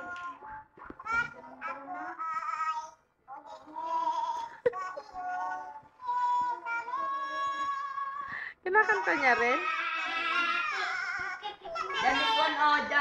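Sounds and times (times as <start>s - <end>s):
toddler singing: 0.0s - 12.6s.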